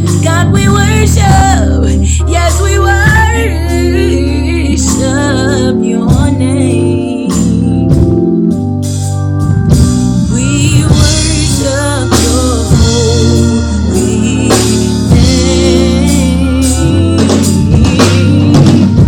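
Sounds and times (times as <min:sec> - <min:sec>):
person singing with vibrato: 0:00.0 - 0:08.1, 0:10.2 - 0:19.0
drums: 0:00.0 - 0:19.0
organ chords: 0:00.0 - 0:19.0.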